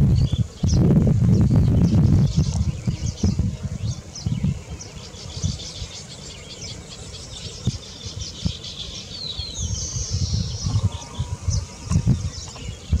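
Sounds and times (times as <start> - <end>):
weaver birds chattering: 0.0 - 13.0.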